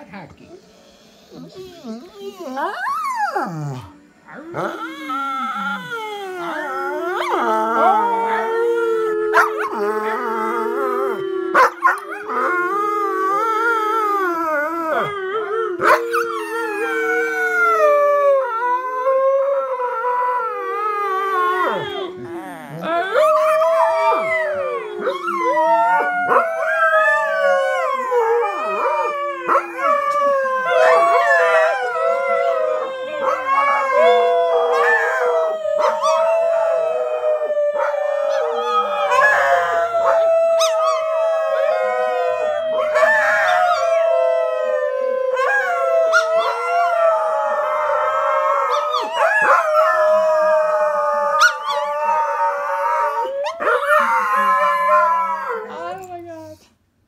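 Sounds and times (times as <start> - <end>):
dogs howling in chorus: 1.3 - 56.2.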